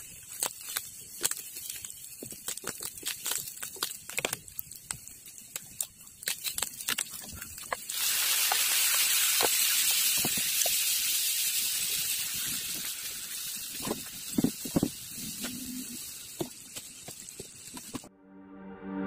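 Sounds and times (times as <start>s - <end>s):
fish roe frying with crackles: 0.0s - 18.1s
loud sizzle: 0.0s - 18.1s.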